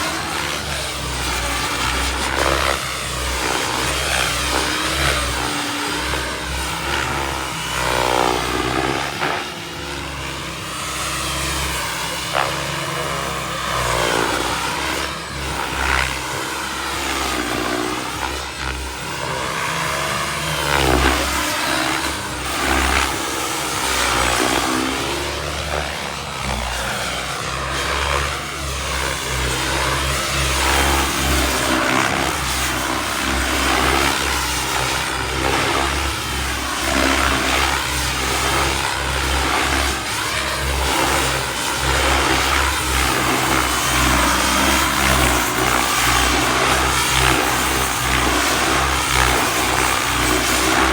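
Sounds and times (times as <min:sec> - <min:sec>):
model helicopter turbine and rotor: 0:00.0 - 0:50.9.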